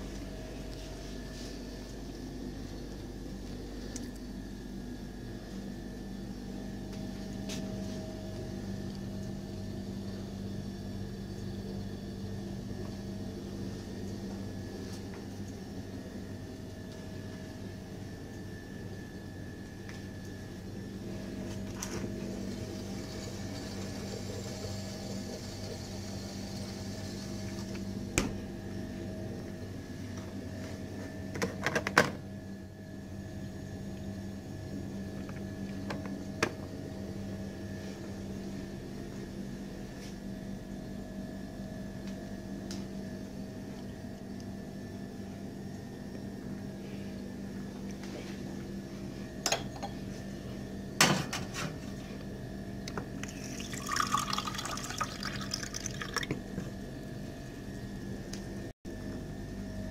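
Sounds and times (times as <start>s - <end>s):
electrical hum of appliances: 0.0s - 59.9s.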